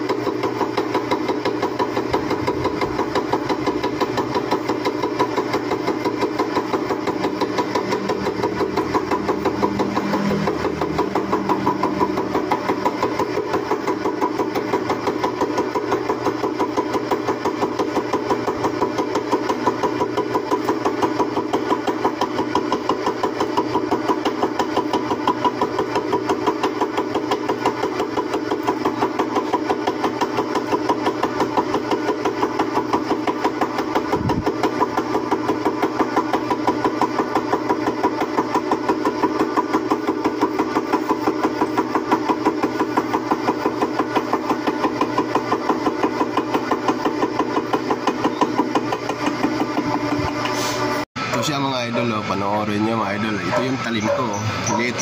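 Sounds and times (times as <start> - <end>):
milling machine cutting steel: 0.0 - 55.0.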